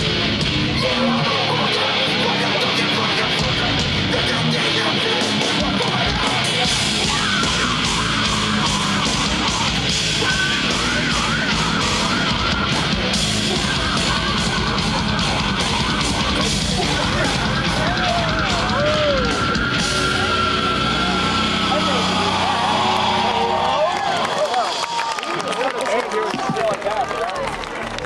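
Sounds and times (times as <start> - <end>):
distorted electric guitars: 0.0 - 24.9
drums: 0.0 - 25.6.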